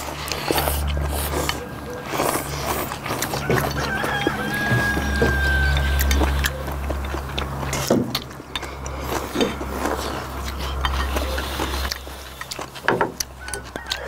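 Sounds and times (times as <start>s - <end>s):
chewing: 0.0s - 14.0s
slurping: 0.0s - 14.0s.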